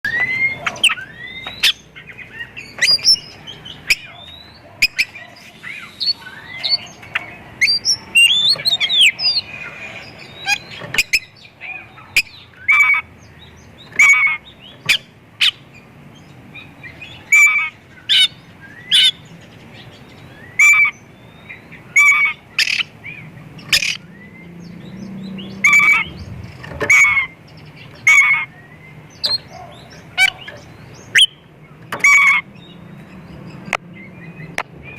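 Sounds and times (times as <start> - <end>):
bird singing varied song: 0.0 - 34.9.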